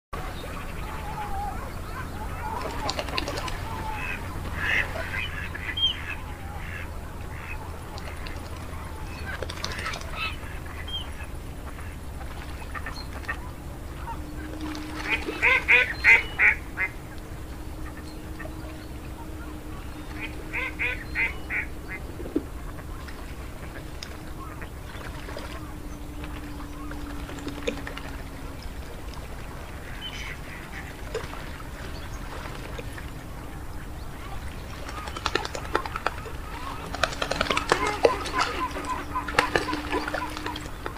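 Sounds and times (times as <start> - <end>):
geese calling: 0.2 - 40.9
steady low hum: 0.2 - 40.9.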